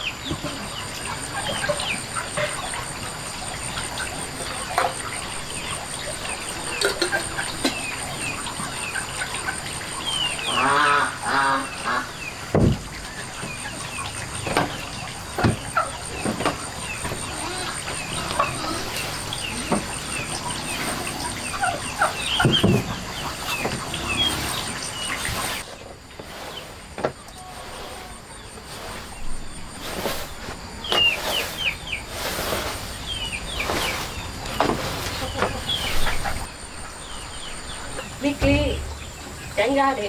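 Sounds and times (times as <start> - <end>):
poultry calling: 0.0 - 25.7, 26.3 - 40.0.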